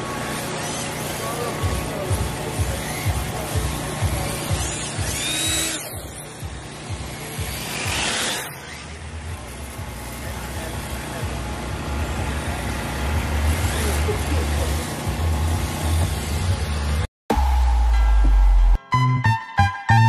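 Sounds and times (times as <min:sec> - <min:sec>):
motor vehicle engine rumbling: 0:00.0 - 0:17.1
outdoor noise: 0:00.0 - 0:18.8
music with heavy bass: 0:01.2 - 0:20.0.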